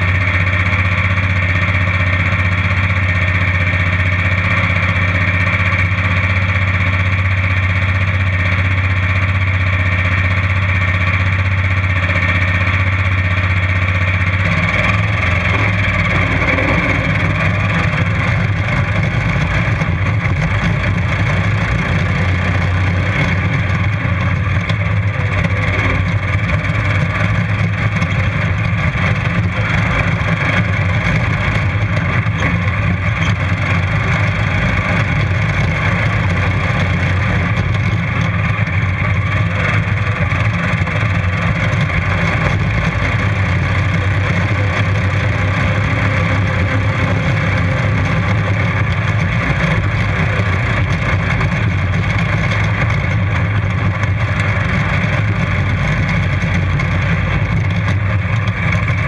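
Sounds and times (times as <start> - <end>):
lawnmower engine running under load: 0.0 - 59.0.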